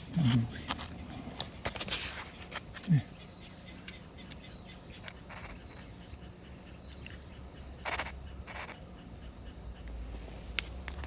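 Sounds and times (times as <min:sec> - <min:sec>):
high-pitched insect trill: 0:00.0 - 0:11.0
rustle: 0:00.0 - 0:11.0.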